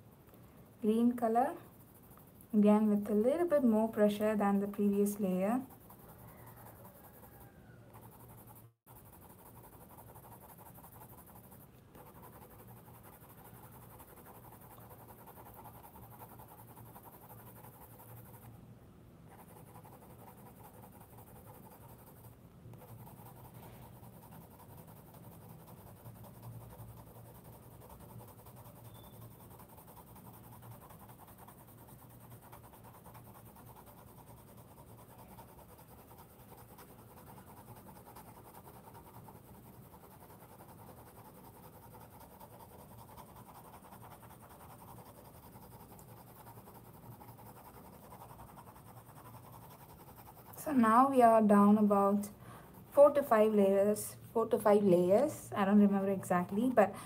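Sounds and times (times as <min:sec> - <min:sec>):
colored pencil scratching on paper: 0:00.8 - 0:18.6, 0:19.3 - 0:56.9.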